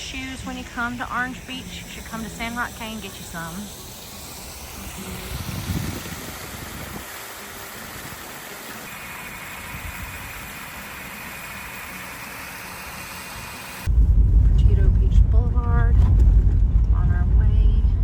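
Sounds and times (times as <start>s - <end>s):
faint high whine: 0.0s - 14.8s
car running hum: 0.0s - 18.0s.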